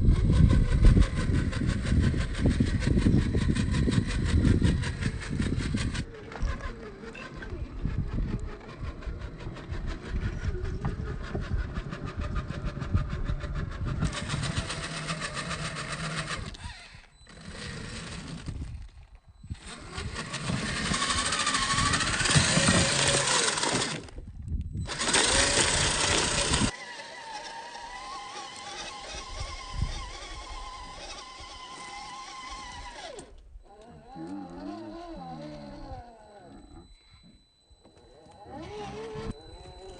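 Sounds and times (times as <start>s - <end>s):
toy truck motors whining and grinding: 0.0s - 39.9s.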